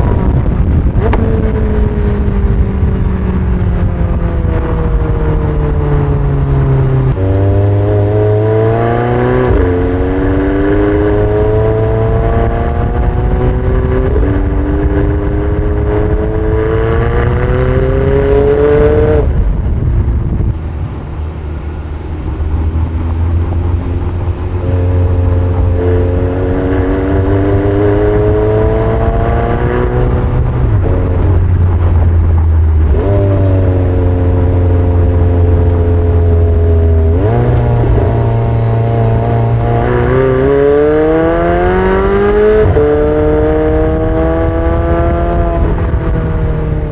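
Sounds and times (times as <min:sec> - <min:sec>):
car engine accelerating through gears: 0:00.0 - 0:46.9.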